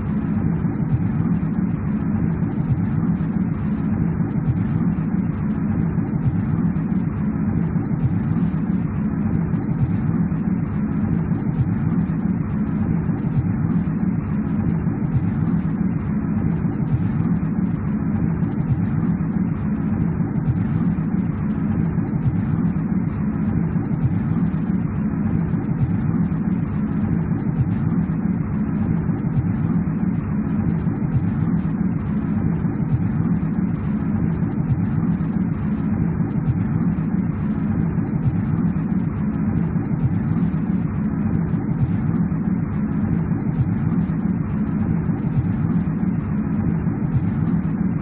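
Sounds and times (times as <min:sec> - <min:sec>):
steady low rumbling noise: 0:00.0 - 0:48.0.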